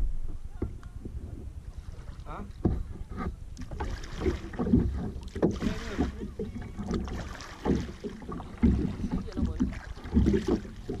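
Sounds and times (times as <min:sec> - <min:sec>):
paddle dipping through water: 0:00.0 - 0:11.0
water splashing around hull: 0:00.0 - 0:11.0.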